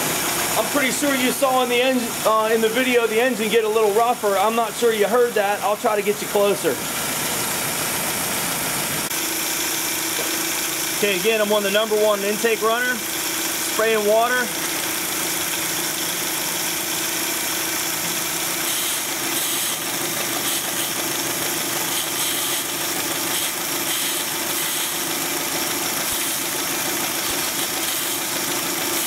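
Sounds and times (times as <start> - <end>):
car engine idling roughly: 0.0 - 29.0.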